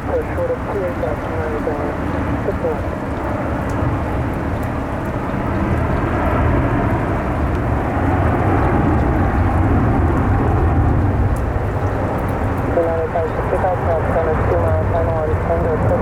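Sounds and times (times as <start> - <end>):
heavy wind-driven rain: 0.0 - 16.0
wind buffeting microphone: 0.0 - 16.0.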